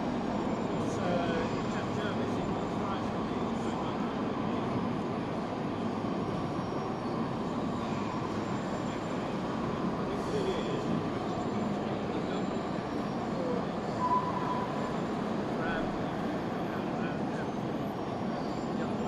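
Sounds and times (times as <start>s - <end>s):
busy hall noise: 0.0s - 18.4s.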